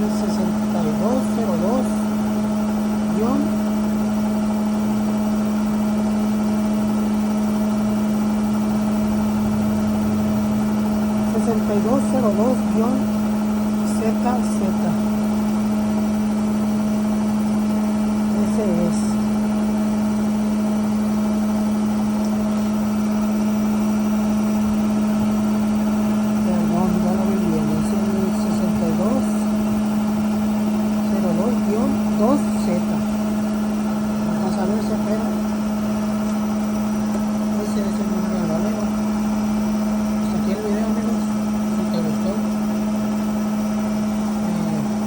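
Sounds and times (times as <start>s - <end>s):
washing machine humming: 0.0s - 45.0s.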